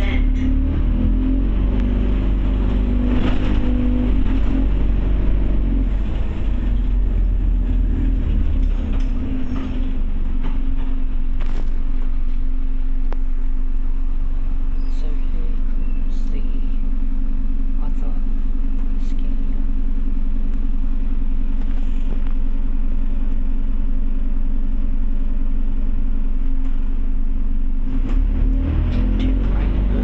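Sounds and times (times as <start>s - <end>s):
bus diesel engine: 0.0s - 30.0s.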